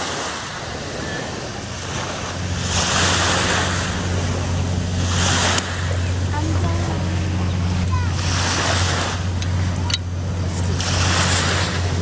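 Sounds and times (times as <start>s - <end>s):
sea surf washing in: 0.0s - 12.0s
steady low hum: 0.0s - 12.0s
wind buffeting microphone: 0.0s - 12.0s.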